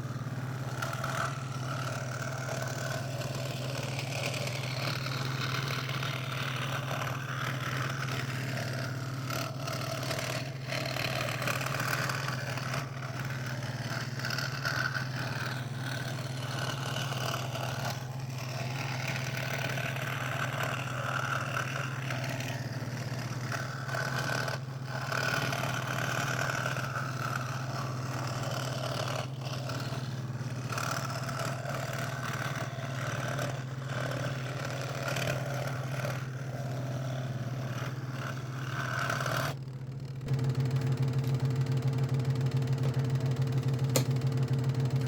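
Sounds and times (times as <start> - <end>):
saw blade cutting plywood: 0.0 - 40.5
scroll saw motor hum: 0.0 - 45.0.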